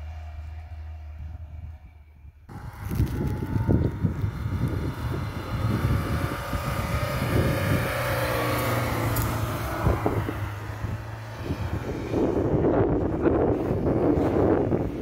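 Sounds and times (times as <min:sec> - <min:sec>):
car engine revving: 0:00.0 - 0:15.0
wind gusting on microphone: 0:01.3 - 0:15.0.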